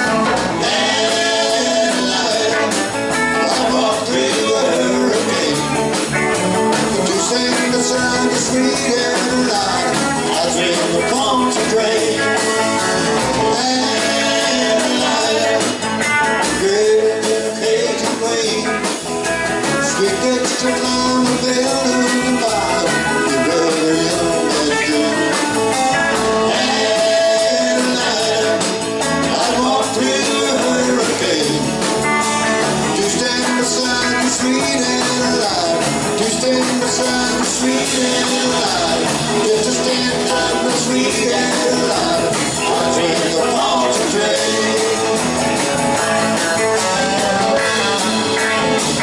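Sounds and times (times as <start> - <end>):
bass guitar: 0.0 - 49.0
drum kit: 0.0 - 49.0
electric guitars: 0.0 - 49.0.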